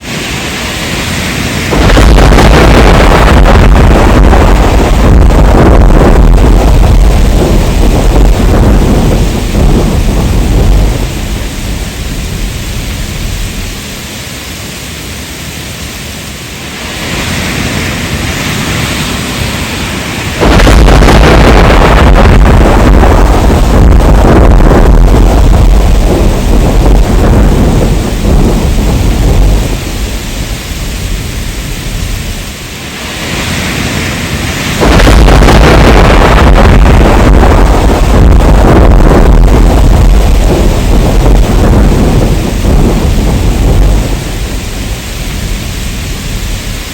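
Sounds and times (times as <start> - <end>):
deep rumbling thunder: 0.0 - 14.1, 16.9 - 46.9
heavy rain: 0.0 - 46.9.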